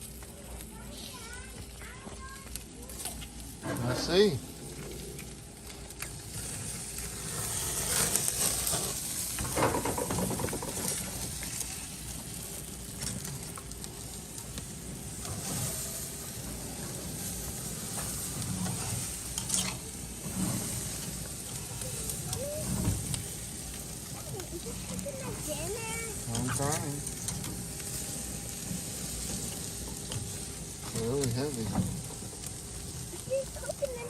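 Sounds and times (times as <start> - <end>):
meat sizzling on a grill: 0.0 - 34.0.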